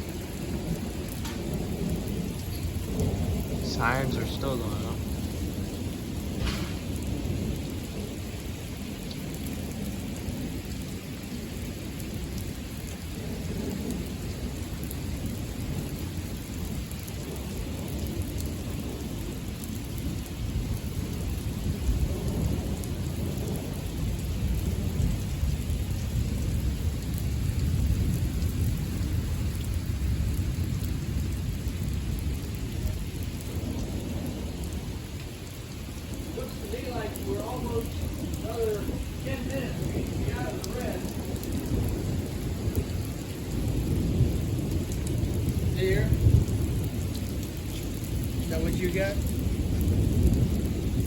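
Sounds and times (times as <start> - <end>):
deep rolling thunder: 0.0 - 51.0
steady rain: 0.0 - 51.0.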